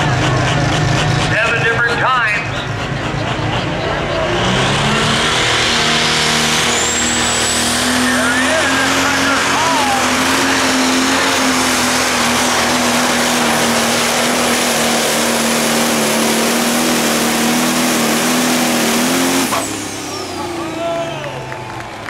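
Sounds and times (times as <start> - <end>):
tractor diesel engine running flat out: 0.0 - 22.0.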